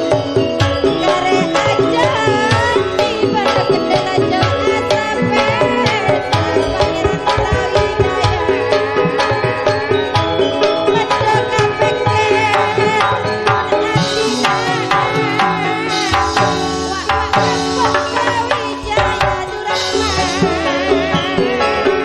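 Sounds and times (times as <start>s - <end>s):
hand drum patterns: 0.0s - 21.5s
high vibrato melody: 0.0s - 22.0s
keyboard: 0.0s - 22.0s
struck metallophones: 0.0s - 22.0s.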